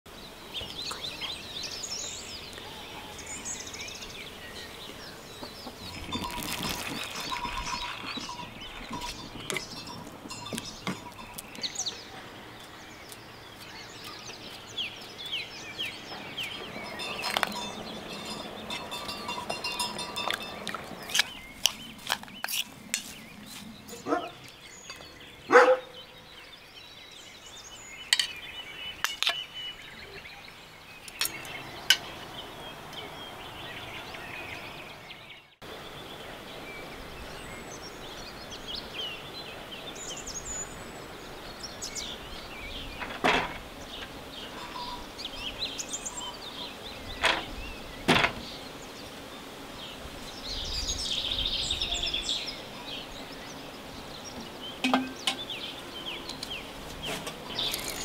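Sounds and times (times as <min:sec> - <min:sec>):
birds chirping: 0:00.1 - 0:58.0.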